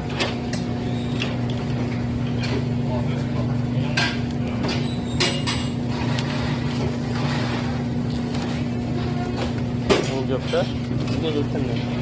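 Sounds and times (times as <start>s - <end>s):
refrigerated display case humming: 0.0s - 12.0s.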